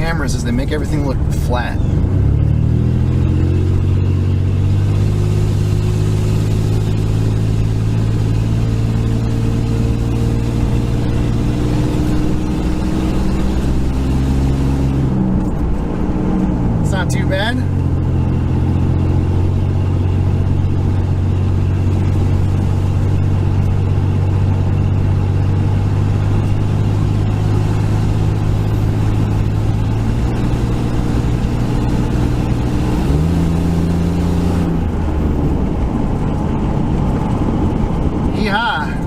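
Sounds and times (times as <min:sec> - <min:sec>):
road noise: 0:00.0 - 0:39.0
truck engine running: 0:00.0 - 0:39.0.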